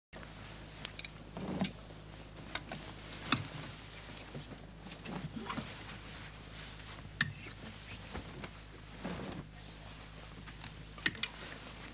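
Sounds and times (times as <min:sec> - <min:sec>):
steady low hum: 0:00.2 - 0:11.9
fabric rustling: 0:01.4 - 0:11.9.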